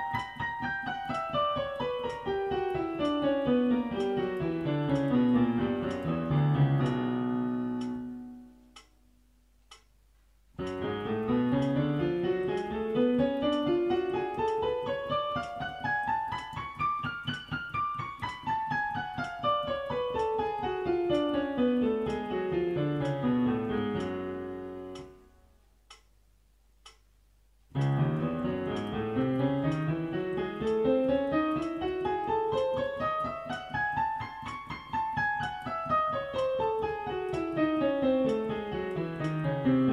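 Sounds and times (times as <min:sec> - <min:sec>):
piano playing scales: 0:00.0 - 0:08.9, 0:10.6 - 0:25.4, 0:27.7 - 0:39.9.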